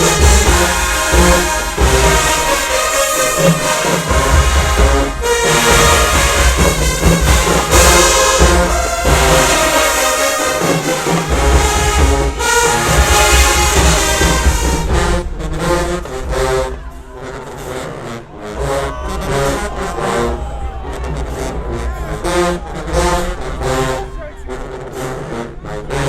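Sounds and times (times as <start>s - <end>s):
marching band brass: 0.0s - 26.0s
pounding drums: 0.0s - 26.0s.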